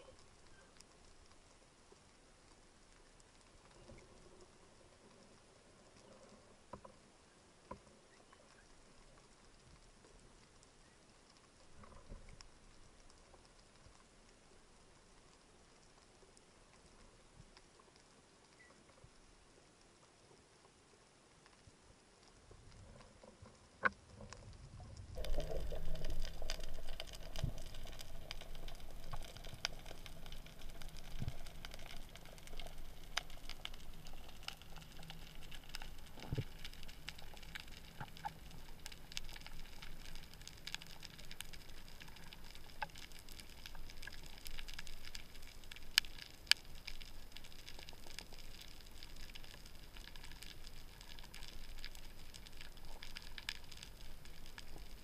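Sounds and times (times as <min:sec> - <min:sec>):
underwater crackle of clicks: 0:00.0 - 0:55.0.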